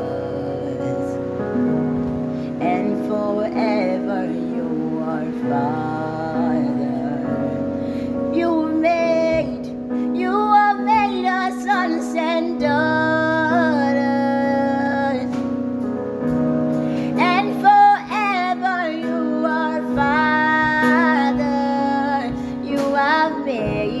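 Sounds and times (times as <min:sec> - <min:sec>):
woman singing: 0:00.0 - 0:16.0, 0:16.8 - 0:24.0
sustained keyboard chords: 0:00.0 - 0:24.0.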